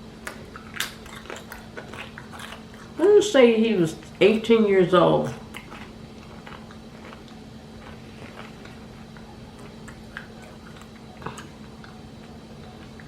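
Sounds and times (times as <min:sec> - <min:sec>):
person chewing food: 0:00.0 - 0:03.2, 0:05.4 - 0:13.0
faint steady hum: 0:00.0 - 0:13.0.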